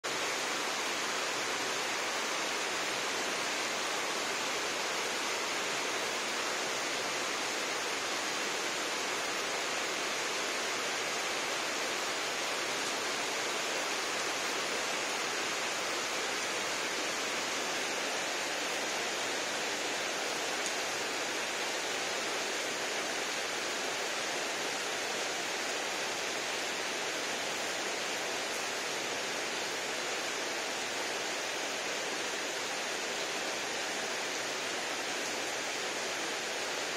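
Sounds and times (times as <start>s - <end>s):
heavy rain on gravel: 0.0s - 36.9s.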